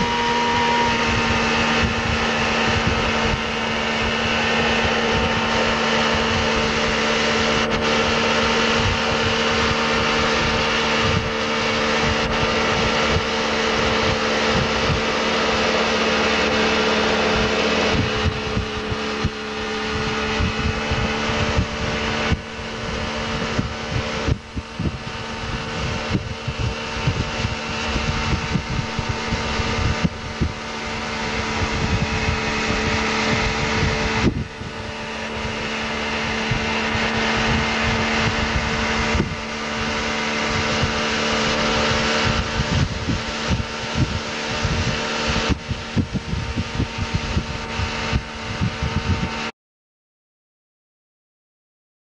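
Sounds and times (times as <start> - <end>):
outboard motor running: 0.0 - 49.5
wind on microphone: 0.0 - 49.5.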